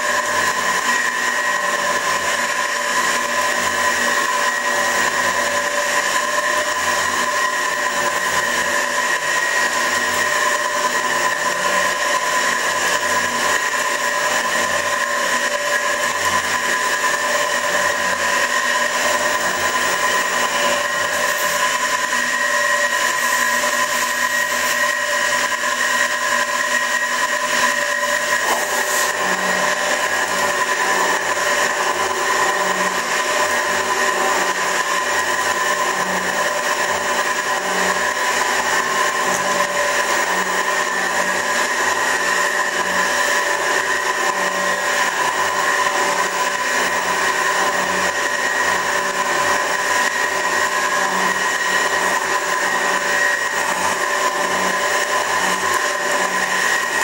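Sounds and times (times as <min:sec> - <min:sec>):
metal shaper whining: 0:00.0 - 0:57.0.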